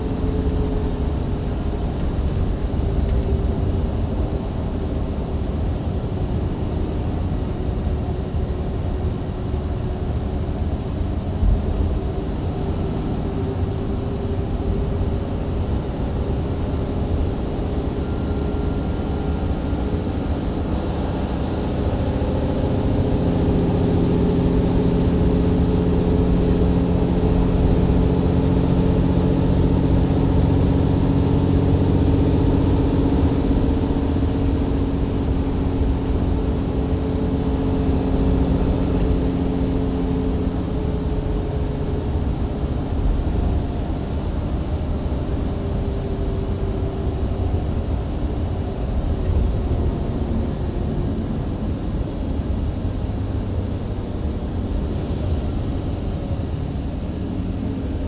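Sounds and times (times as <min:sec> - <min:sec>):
bus engine running: 0:00.0 - 0:58.0
road rumble: 0:00.0 - 0:58.0.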